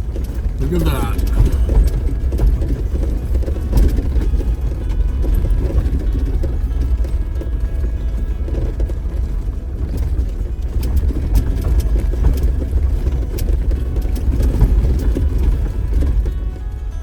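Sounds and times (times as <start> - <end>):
knocks and rattles from bouncing: 0.0 - 17.0
off-road vehicle engine and tyres rumbling: 0.0 - 17.0.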